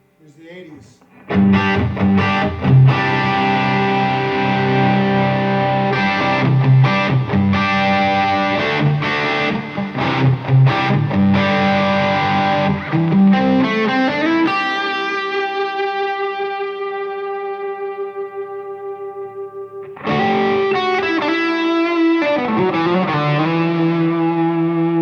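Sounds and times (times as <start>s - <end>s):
overdriven electric guitar: 1.0s - 25.0s.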